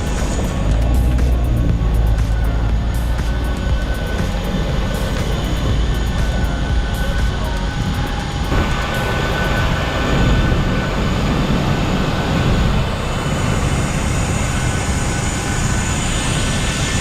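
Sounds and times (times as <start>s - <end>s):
jet airliner rumble and whine: 0.0s - 17.0s.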